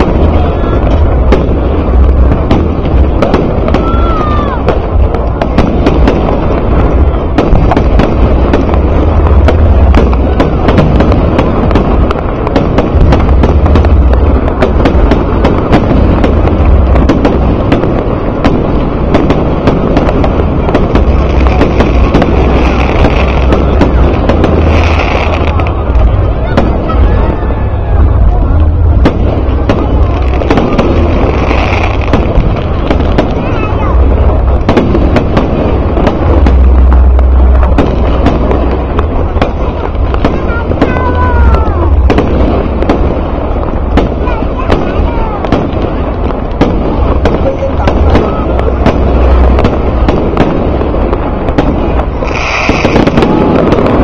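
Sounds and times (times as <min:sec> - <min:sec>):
distant fireworks crackling bangs: 0:00.0 - 0:54.0
steady low rumble: 0:00.0 - 0:54.0.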